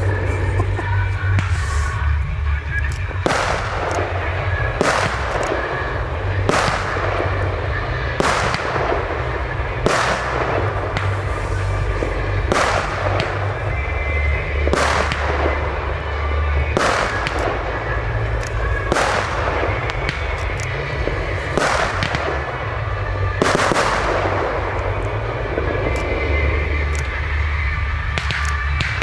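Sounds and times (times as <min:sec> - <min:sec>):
firework shells bursting: 0:00.0 - 0:29.0
sharp firework pops: 0:00.0 - 0:29.0.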